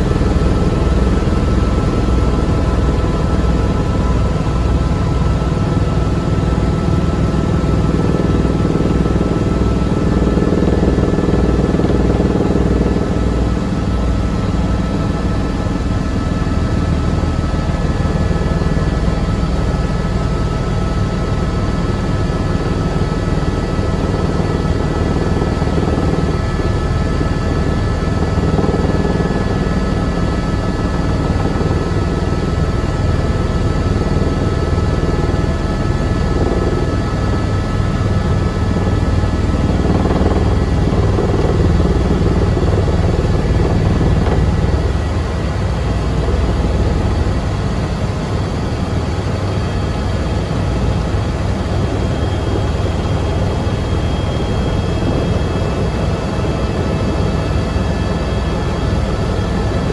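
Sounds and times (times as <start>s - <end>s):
helicopter engine and rotor rumble: 0.0s - 59.9s
thin steady whine: 0.0s - 59.9s.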